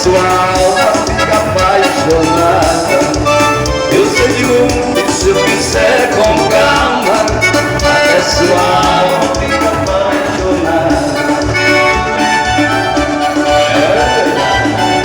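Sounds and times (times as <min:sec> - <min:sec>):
loud dance band music: 0:00.0 - 0:15.0.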